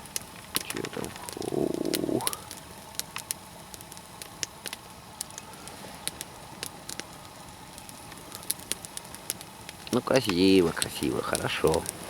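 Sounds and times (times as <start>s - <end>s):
campfire crackles and pops: 0.0s - 12.0s
campfire hiss: 0.0s - 12.0s.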